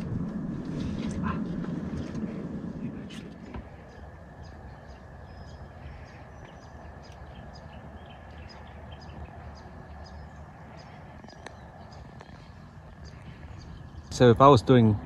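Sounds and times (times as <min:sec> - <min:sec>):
steady low rumble: 0:00.0 - 0:15.0
birds chirping and whistling: 0:00.1 - 0:15.0.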